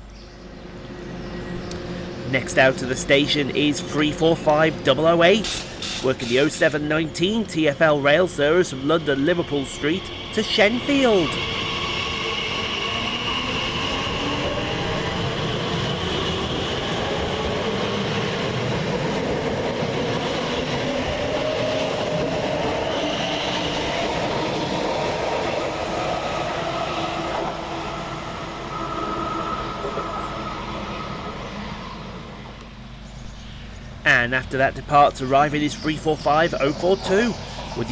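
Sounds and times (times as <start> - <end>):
traction motors whining: 0.0 - 37.9
train wheel and rail noise: 0.0 - 37.9.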